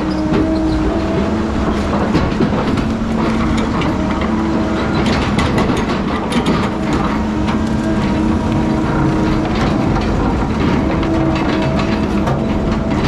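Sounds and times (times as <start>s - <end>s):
diesel engine running under load: 0.0s - 13.0s
metallic clanks and rattles: 0.0s - 13.0s.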